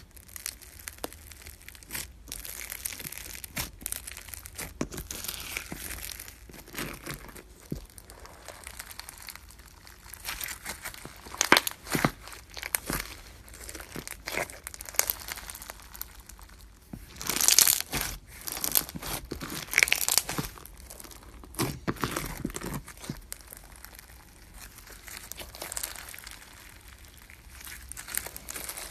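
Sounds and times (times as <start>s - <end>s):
slime squeezed crackling: 0.0s - 28.9s.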